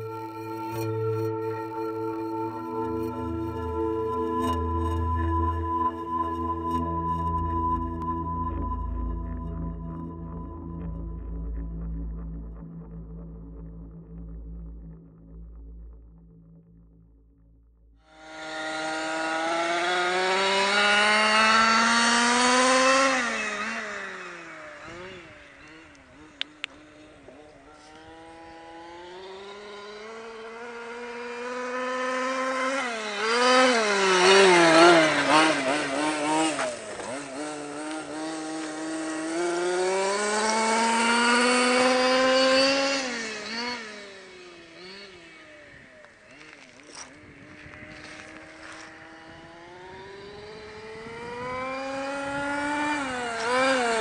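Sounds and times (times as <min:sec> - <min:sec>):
buzzing two-stroke engine: 0:00.0 - 0:13.2, 0:18.0 - 0:54.0.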